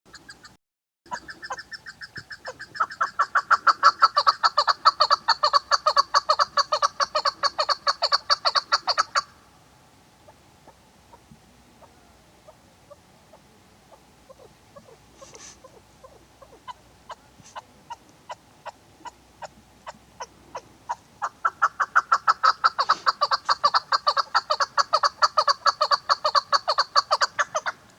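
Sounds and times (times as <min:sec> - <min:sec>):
partridge clucking calls: 0:00.1 - 0:09.4, 0:10.2 - 0:27.9.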